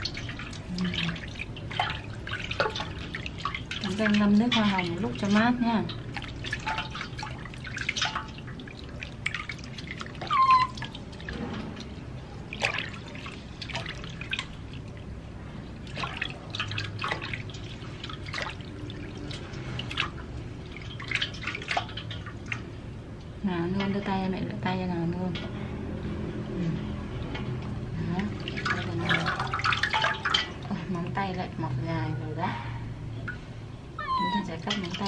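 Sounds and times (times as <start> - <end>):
water splashing in metal basin: 0.0 - 24.2, 26.9 - 31.6, 34.4 - 35.0.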